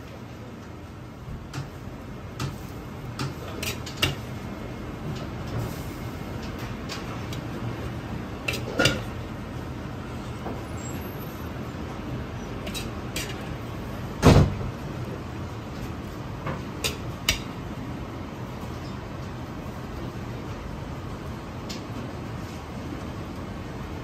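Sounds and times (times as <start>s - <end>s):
low kitchen hum: 0.0s - 24.0s.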